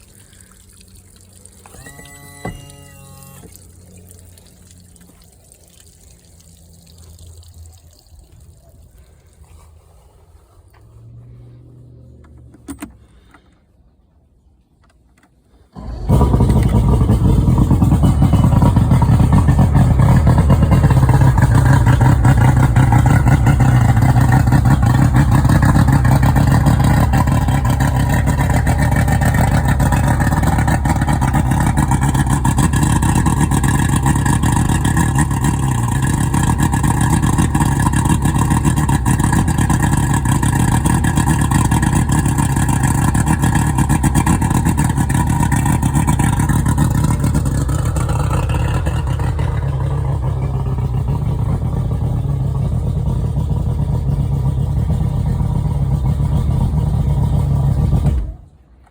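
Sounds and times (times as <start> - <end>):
outboard motor idling: 0.0 - 14.0, 15.4 - 58.8.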